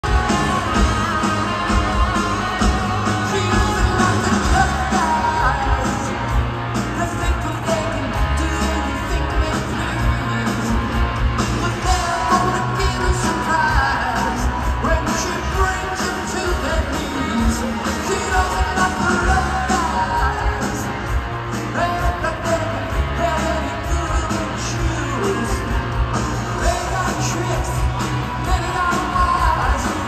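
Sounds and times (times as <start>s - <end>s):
electric guitars: 0.0s - 30.0s
lead singer singing: 0.0s - 30.0s
steady drum beat: 0.0s - 30.0s.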